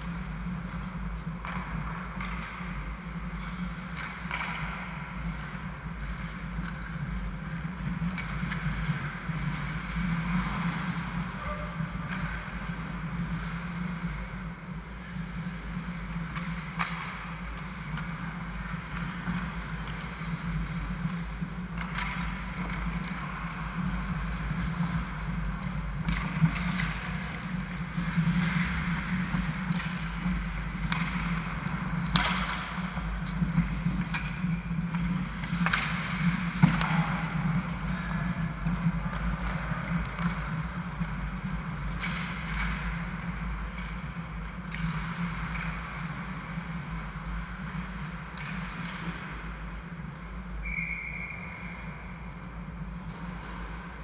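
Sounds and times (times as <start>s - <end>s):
hockey sticks and puck clacking: 0.0s - 54.0s
steady low hum: 0.0s - 54.0s.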